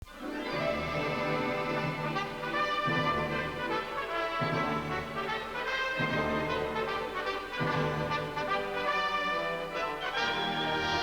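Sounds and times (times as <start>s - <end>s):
orchestral brass melody: 0.0s - 11.0s.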